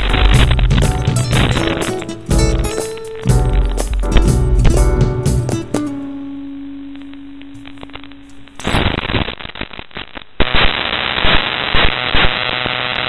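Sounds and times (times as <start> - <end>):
crackling radio static hiss: 0.0 - 13.0
hum: 0.0 - 13.0.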